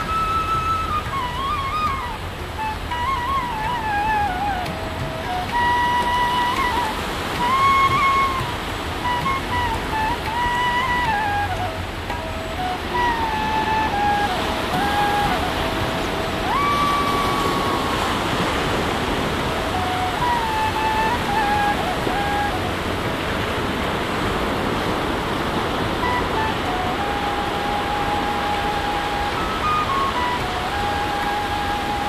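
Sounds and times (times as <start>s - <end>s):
sea surf on a beach: 0.0s - 32.0s
soft background melody: 0.0s - 32.0s.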